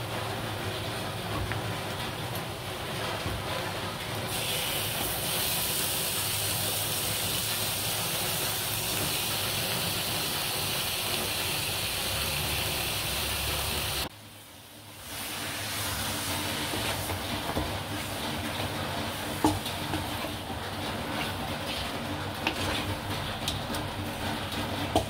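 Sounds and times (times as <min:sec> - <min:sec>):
chicken sizzling in a wok: 0:03.6 - 0:25.0.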